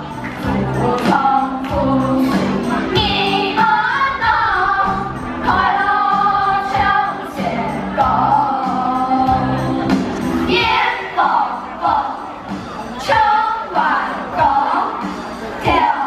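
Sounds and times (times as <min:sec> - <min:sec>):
instrumental backing: 0:00.0 - 0:16.0
steady bass notes: 0:00.0 - 0:16.0
voices singing in unison: 0:00.0 - 0:16.0.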